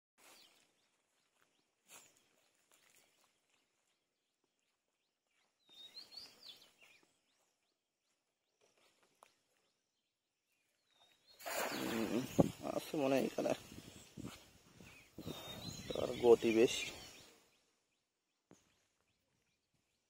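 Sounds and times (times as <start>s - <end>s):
bird chirps: 0.2s - 20.0s.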